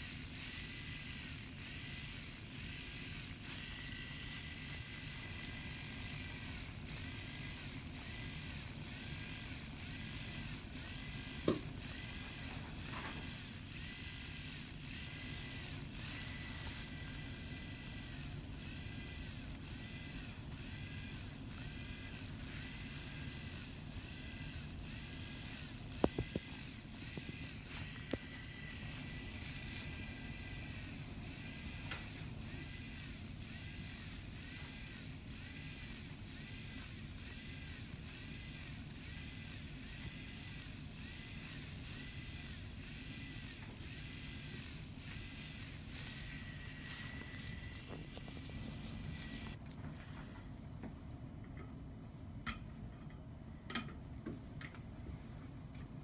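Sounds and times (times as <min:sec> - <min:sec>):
punch drill whining: 0:00.0 - 0:49.6.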